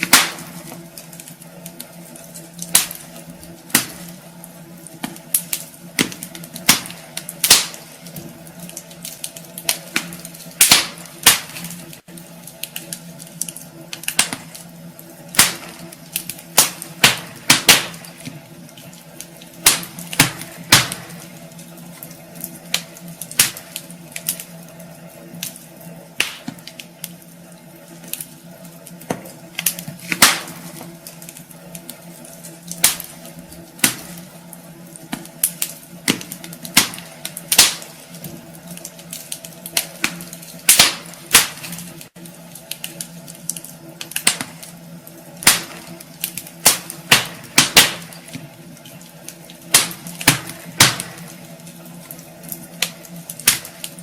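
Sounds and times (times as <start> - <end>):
steady low hum: 0.0 - 54.0
wood fire crackling and popping: 0.0 - 54.0.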